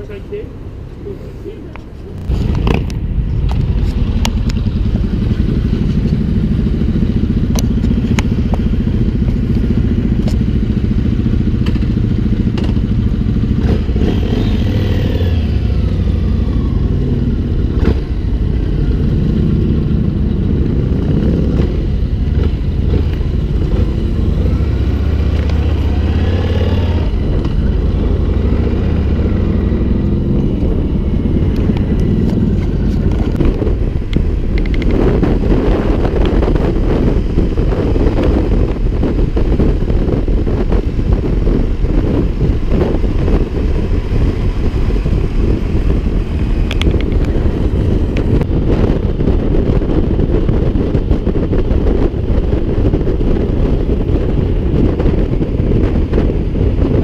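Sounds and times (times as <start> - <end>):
other motorcycles riding nearby: 0.0 - 57.0
motorcycle engine accelerating: 1.7 - 57.0.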